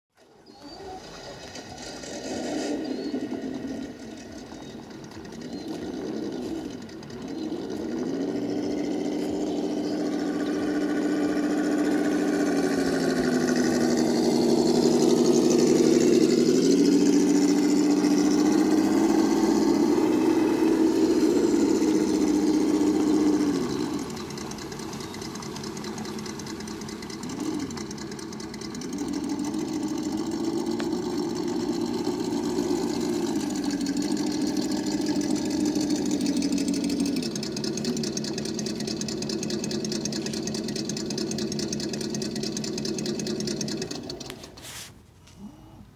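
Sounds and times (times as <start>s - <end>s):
simulated truck engine revving: 0.6s - 44.6s.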